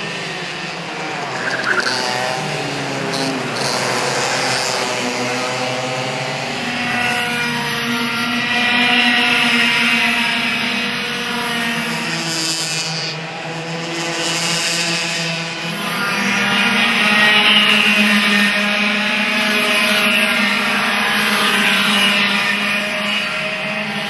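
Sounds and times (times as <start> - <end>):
kart engines at high revs: 0.0 - 24.0.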